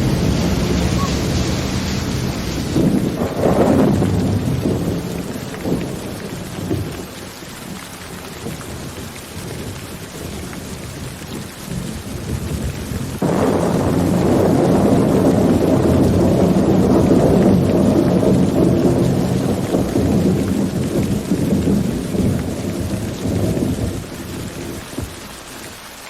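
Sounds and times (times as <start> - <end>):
rolling thunder: 0.0 - 25.5
rain falling: 0.0 - 26.0.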